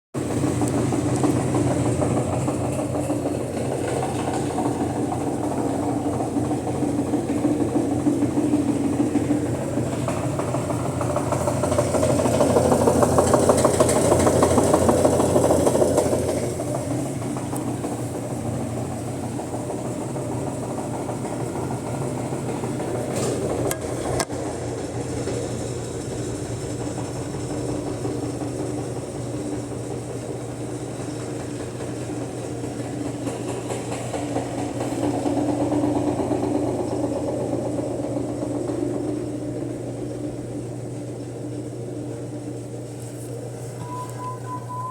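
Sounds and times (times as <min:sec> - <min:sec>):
washing machine motor hum: 0:00.2 - 0:44.9.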